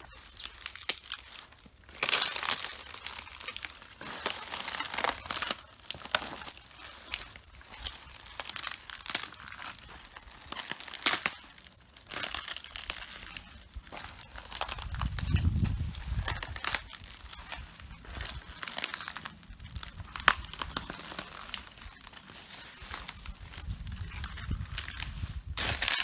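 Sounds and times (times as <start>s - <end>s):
cabbage leaves crunching underfoot: 0.0s - 26.0s.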